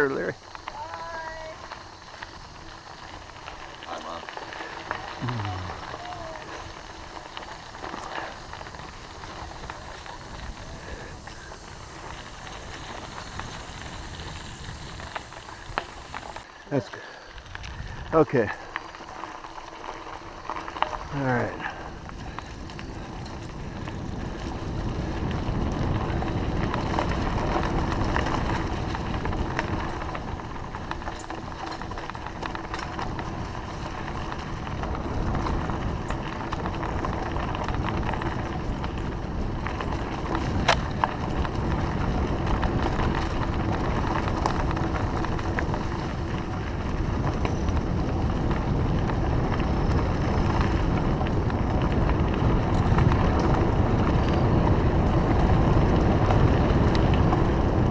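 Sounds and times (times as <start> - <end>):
wind buffeting microphone: 0.0 - 16.5, 17.4 - 57.9
bike clicks and rattles: 0.0 - 57.9.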